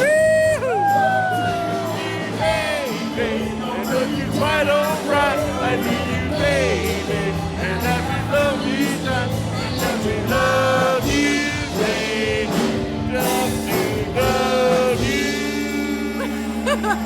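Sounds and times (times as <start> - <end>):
bass: 0.0 - 17.0
drum beats: 0.0 - 17.0
live band playing: 0.0 - 17.0.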